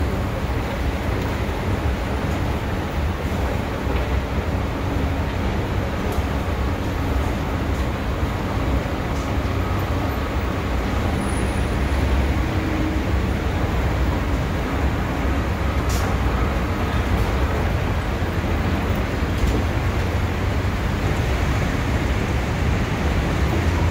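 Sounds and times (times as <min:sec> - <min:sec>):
city traffic: 0:00.0 - 0:23.9.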